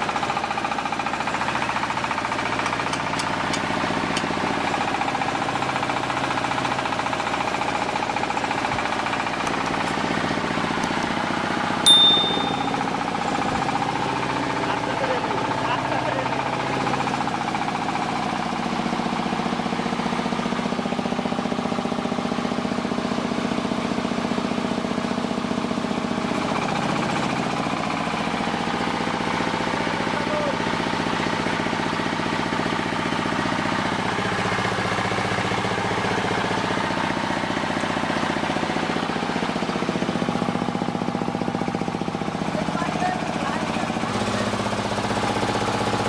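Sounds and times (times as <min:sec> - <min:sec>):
rice milling machine rattling: 0:00.0 - 0:46.0.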